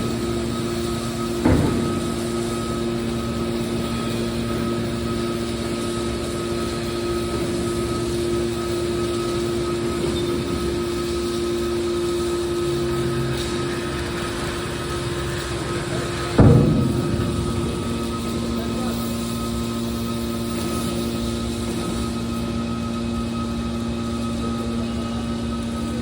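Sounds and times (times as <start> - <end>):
baler press mechanical hum: 0.0 - 26.0.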